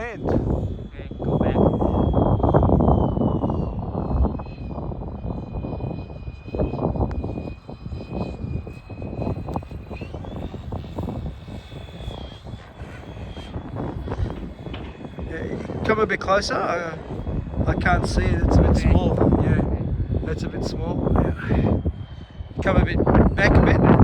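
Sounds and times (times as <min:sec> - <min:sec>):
model helicopter rotor whine: 0:00.0 - 0:24.0
wind buffeting microphone: 0:00.0 - 0:24.0.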